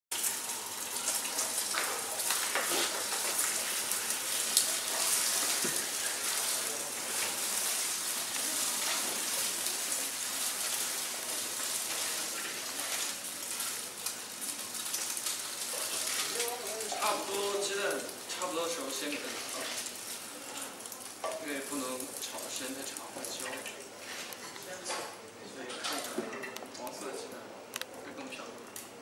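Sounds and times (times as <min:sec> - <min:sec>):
egg sizzling in a frying pan: 0:00.1 - 0:26.7.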